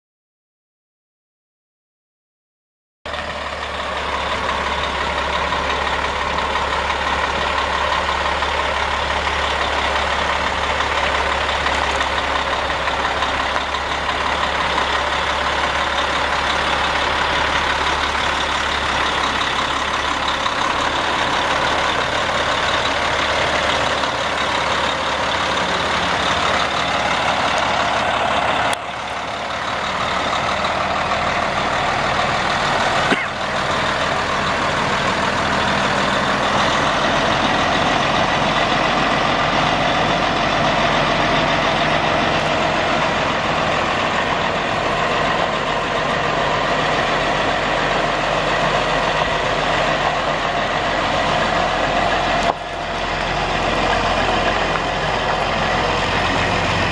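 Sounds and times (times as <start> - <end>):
diesel truck engine idling: 3.1 - 56.9.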